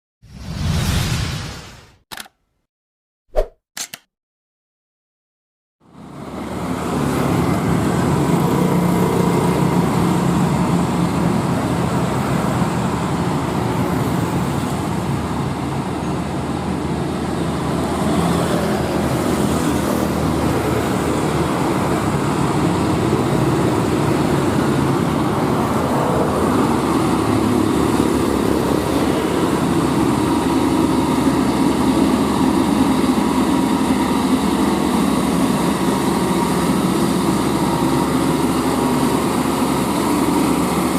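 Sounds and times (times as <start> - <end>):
road traffic: 5.8 - 40.9
truck engine drone: 5.8 - 40.9.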